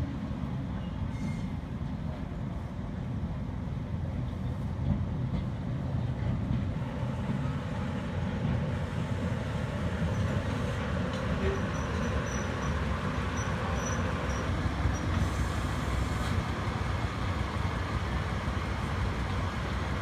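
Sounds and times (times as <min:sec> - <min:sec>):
steam locomotive rumble: 0:00.0 - 0:20.0.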